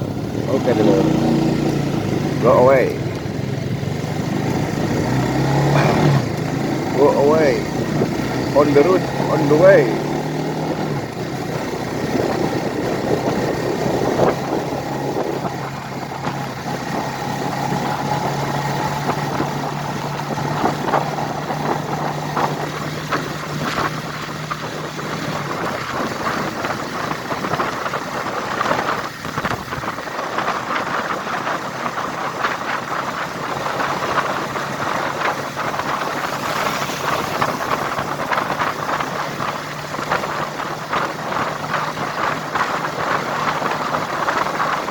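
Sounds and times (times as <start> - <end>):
road and wind noise: 0.0 - 44.9
vehicle engine hum: 0.0 - 44.9.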